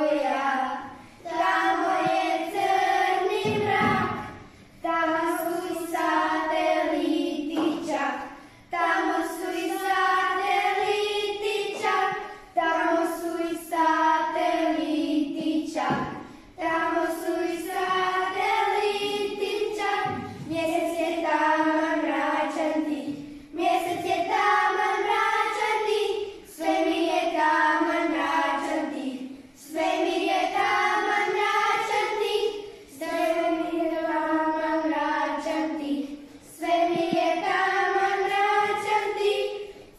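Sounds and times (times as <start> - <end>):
children singing: 0.0 - 39.9.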